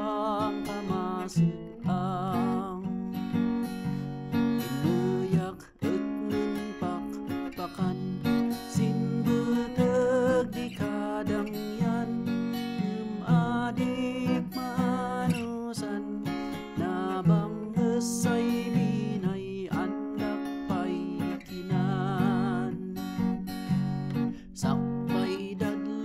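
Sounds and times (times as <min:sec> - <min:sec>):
man singing: 0:00.0 - 0:03.1, 0:04.4 - 0:23.4, 0:24.2 - 0:26.0
acoustic guitar strumming: 0:00.0 - 0:26.0.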